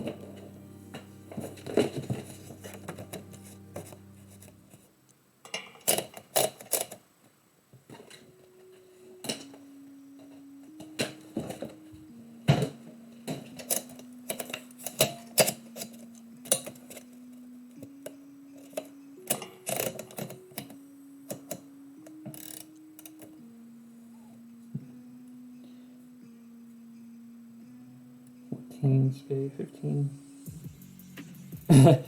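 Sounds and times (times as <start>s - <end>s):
low background music: 0.0s - 6.9s, 7.9s - 32.0s.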